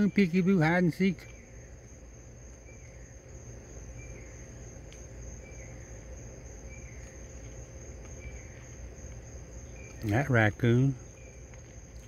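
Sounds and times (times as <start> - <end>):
crickets trilling: 0.0 - 12.0
low steady rumble: 0.0 - 12.0
short lower insect chirp: 0.0 - 12.0.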